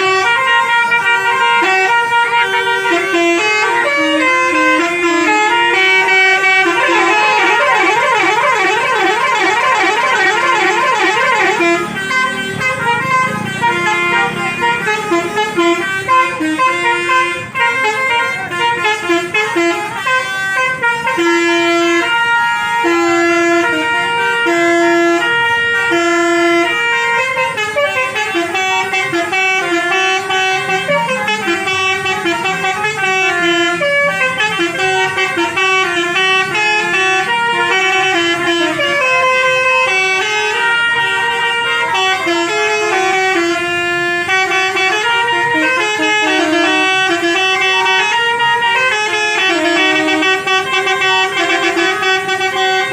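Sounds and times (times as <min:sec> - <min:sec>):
musical bus horn playing a tune: 0:00.0 - 0:52.9.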